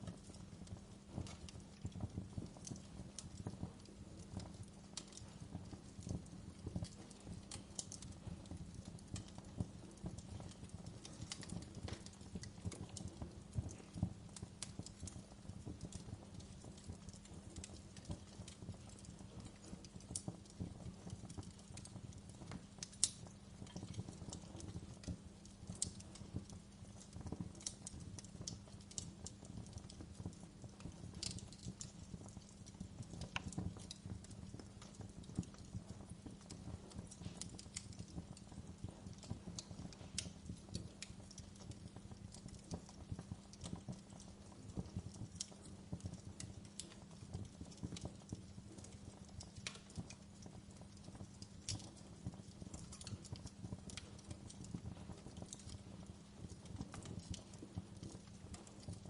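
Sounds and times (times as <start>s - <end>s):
log fire crackling and popping: 0.0s - 59.0s.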